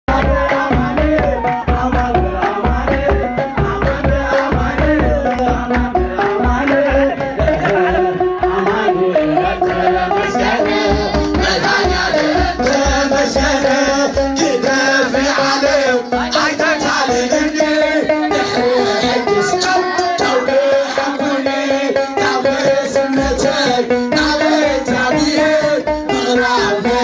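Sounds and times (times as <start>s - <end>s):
man singing into a microphone: 0.0s - 27.0s
fast hand-drum beat: 0.1s - 27.0s.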